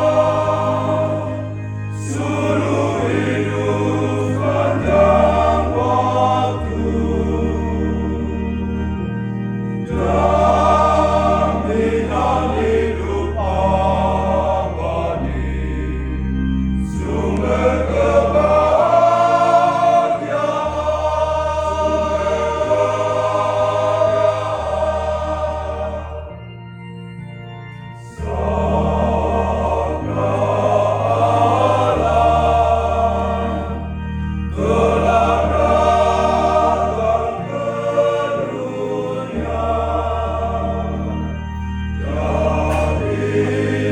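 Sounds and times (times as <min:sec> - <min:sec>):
bass accompaniment: 0:00.0 - 0:43.9
choir singing a hymn: 0:00.0 - 0:43.9.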